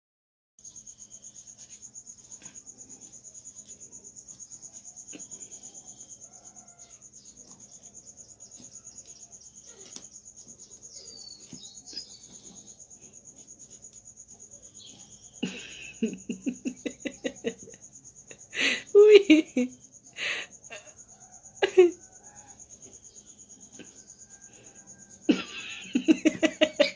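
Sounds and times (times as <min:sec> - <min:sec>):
cricket chirping: 0:00.6 - 0:26.9.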